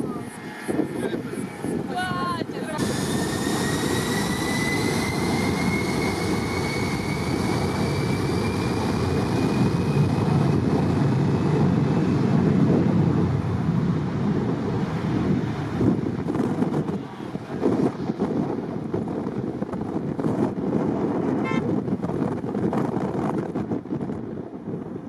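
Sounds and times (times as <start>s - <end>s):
jet engines rumbling and whining: 0.0s - 25.0s.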